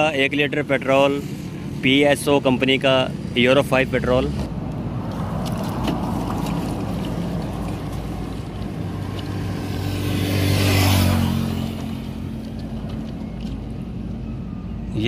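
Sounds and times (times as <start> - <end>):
vehicle passing: 1.0 - 14.1.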